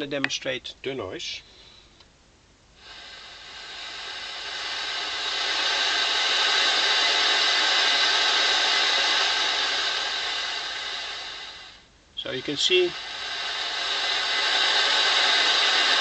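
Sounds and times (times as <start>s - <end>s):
electronic noise hiss: 2.7s - 16.0s.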